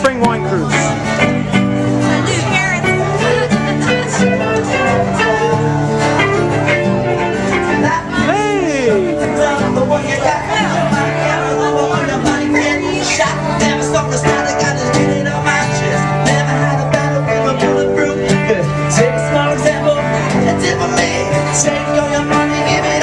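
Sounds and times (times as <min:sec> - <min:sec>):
band playing upbeat music: 0:00.0 - 0:23.0
plucked string instruments: 0:00.0 - 0:23.0.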